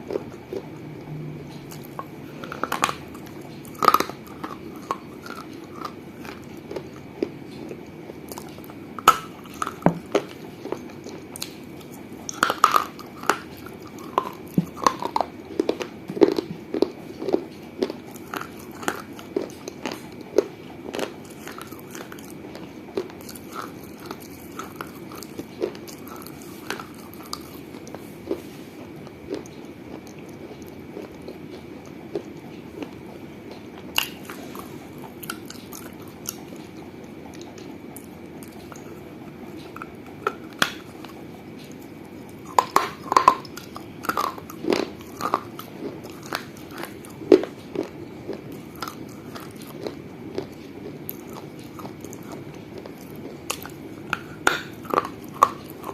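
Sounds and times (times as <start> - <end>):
steady chewing: 0.0 - 55.9.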